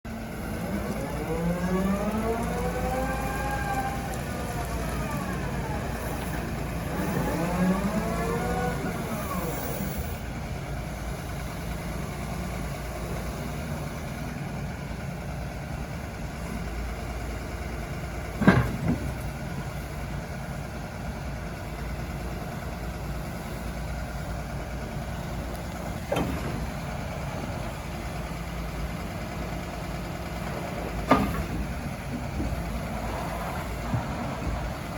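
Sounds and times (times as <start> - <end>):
excavator diesel engine revving: 0.1 - 34.9.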